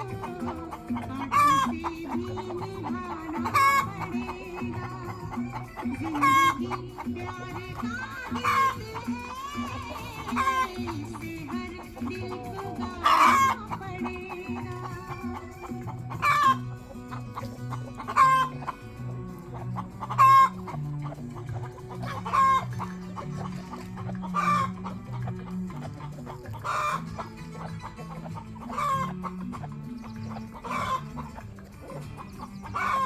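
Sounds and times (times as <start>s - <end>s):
background music: 0.0s - 33.0s
chickens calling: 0.0s - 33.0s.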